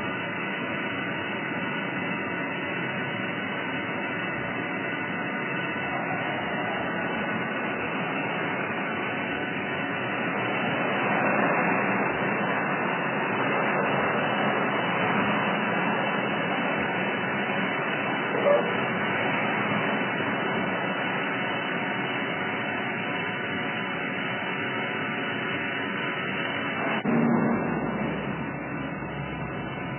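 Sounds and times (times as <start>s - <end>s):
grinder machine running: 2.6s - 29.9s.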